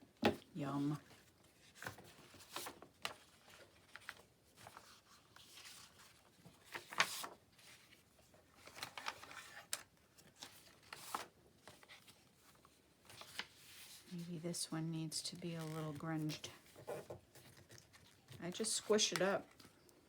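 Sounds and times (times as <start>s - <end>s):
paper pages crinkling: 0.8s - 20.0s.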